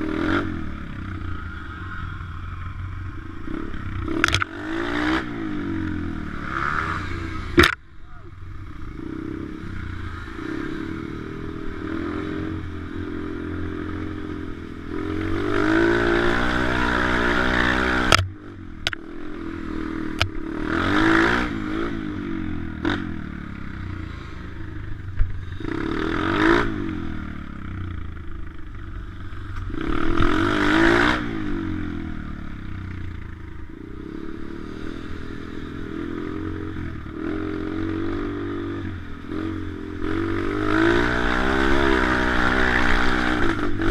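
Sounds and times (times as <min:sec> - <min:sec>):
pit bike engine revving: 0:00.0 - 0:43.9.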